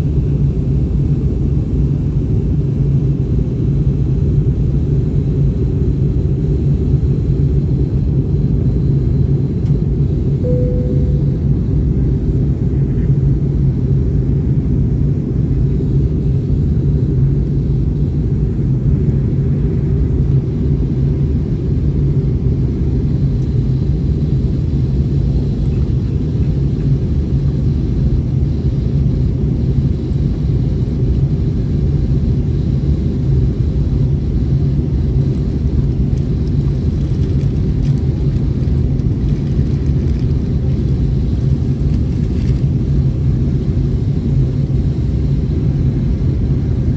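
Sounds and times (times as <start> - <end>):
jet airliner cabin rumble: 0.0 - 46.9.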